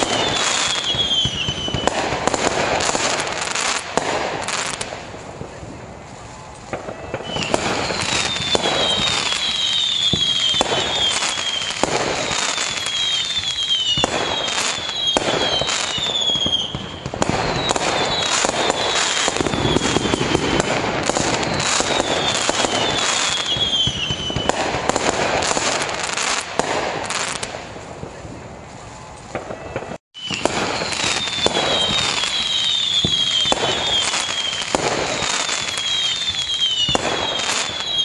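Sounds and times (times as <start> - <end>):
fireworks whistles falling in pitch: 0.0 - 28.2, 28.9 - 38.0
fireworks bangs and crackling: 0.0 - 38.0.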